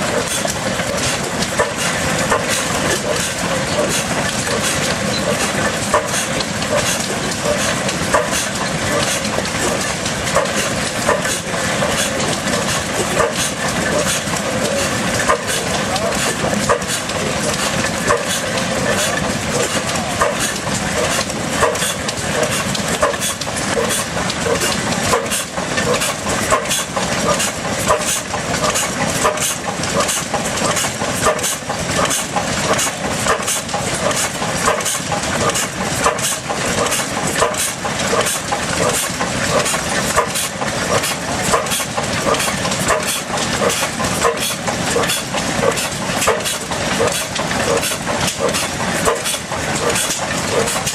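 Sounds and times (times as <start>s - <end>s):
stationary engine knocking: 0.0s - 50.9s.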